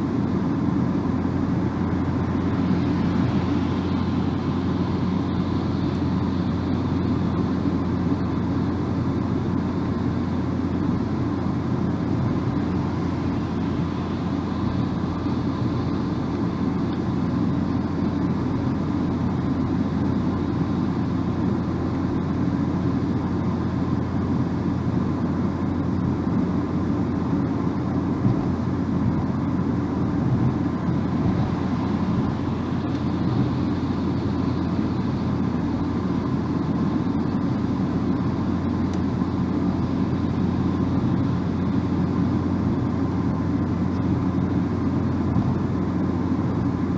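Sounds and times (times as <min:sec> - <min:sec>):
car engine hum: 0:00.0 - 0:46.9
tyre and road noise: 0:00.0 - 0:46.9.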